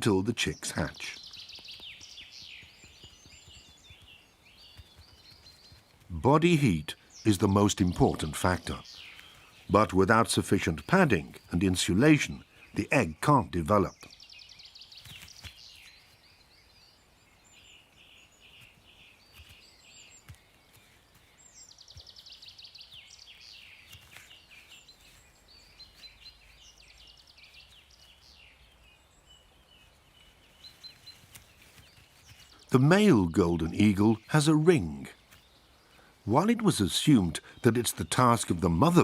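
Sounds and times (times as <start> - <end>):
songbirds trilling and chirping: 0.0 - 39.0.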